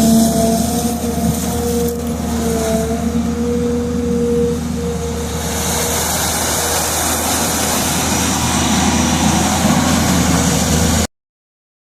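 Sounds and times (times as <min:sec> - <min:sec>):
excavator engine running: 0:00.0 - 0:11.1.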